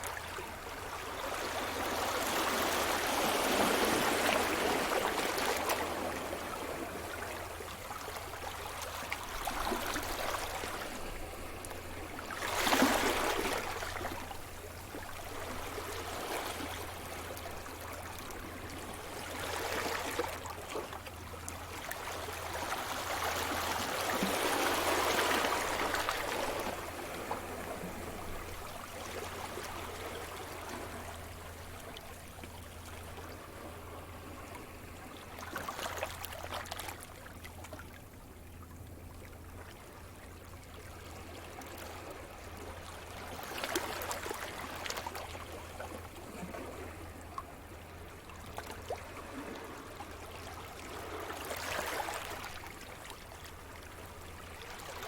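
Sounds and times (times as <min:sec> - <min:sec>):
sea waves breaking on shore: 0:00.0 - 0:37.5, 0:40.8 - 0:55.0.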